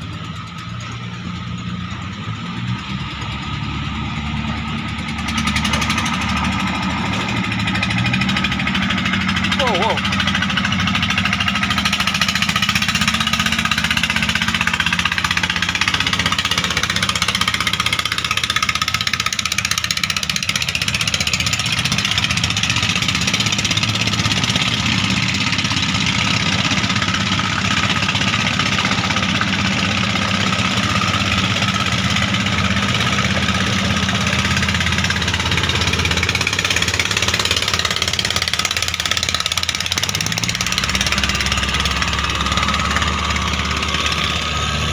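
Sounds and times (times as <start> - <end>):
boat diesel engine running: 0.0 - 44.9.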